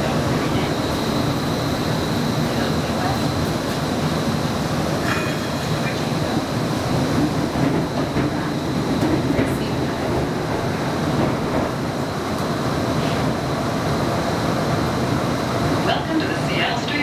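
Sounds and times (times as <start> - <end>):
streetcar wheels rumbling on rails: 0.0 - 17.0.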